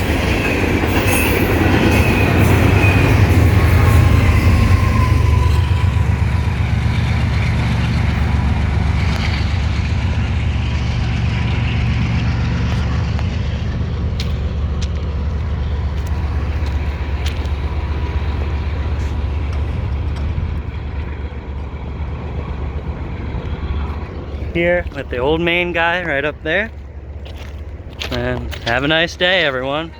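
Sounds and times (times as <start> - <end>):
sharp clicks of train: 0.0 - 29.6
freight train rumbling past: 0.0 - 29.9.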